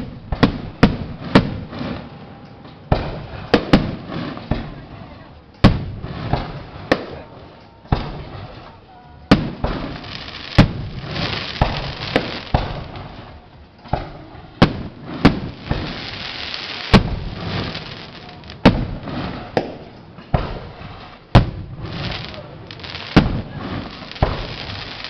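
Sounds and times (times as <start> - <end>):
firework bangs: 0.0 - 2.1, 2.9 - 4.9, 5.6 - 25.0
fireworks crackling and hissing: 0.0 - 25.0.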